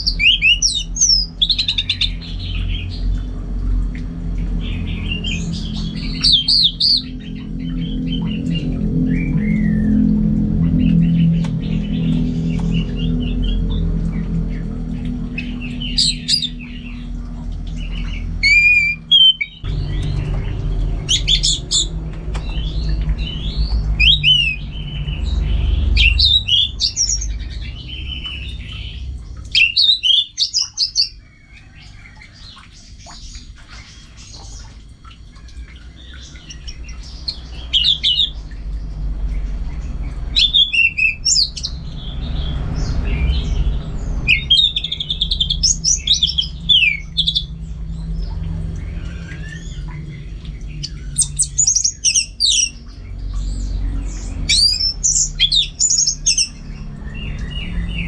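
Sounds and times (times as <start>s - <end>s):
low rumble: 1.3s - 29.7s, 35.8s - 58.0s.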